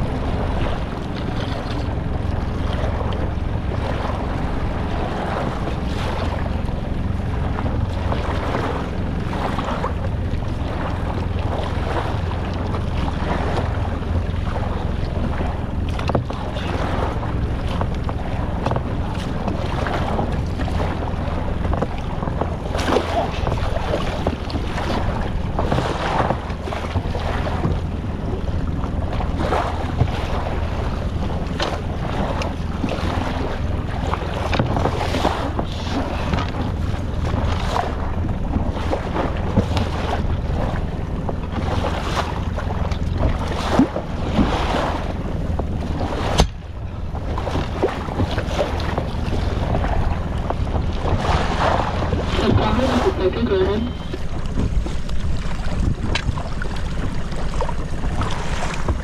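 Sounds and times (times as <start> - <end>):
boat motor hum: 0.0 - 59.0
water slapping against hull: 0.0 - 59.0
wind buffeting microphone: 0.0 - 59.0.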